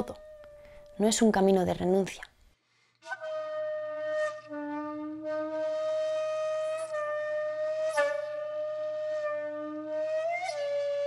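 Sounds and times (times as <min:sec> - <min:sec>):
breathy flute long notes: 0:00.0 - 0:01.0, 0:03.0 - 0:11.0.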